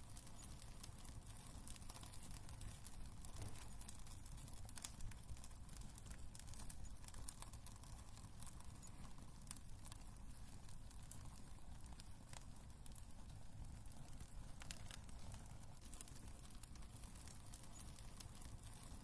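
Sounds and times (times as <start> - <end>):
low rumble of burning: 0.0 - 19.0
wood fire crackling: 0.0 - 19.0.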